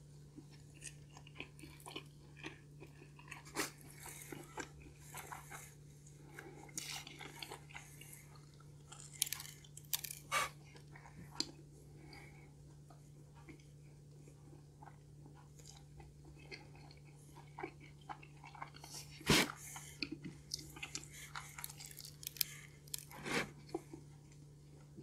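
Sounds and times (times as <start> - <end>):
steady low hum: 0.0 - 25.0
chewing pizza: 0.2 - 25.0.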